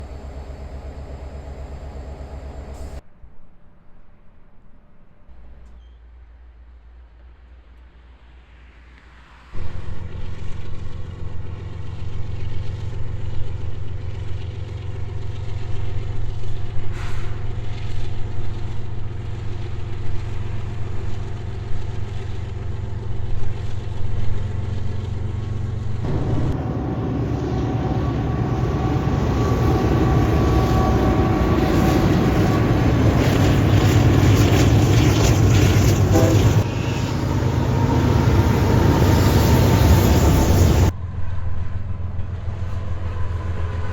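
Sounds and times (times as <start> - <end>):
diesel locomotives droning: 0.0 - 3.1, 6.4 - 43.9.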